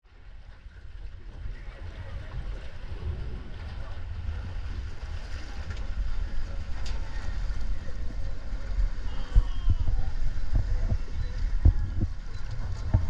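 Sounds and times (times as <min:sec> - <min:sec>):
wind rumble on microphone: 0:00.1 - 0:13.0.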